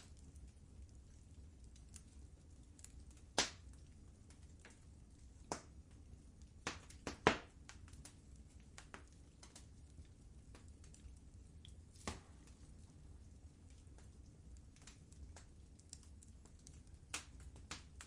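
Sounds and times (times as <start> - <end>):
low steady rumble: 0.0 - 18.0
wood fire crackling and popping: 0.0 - 18.0.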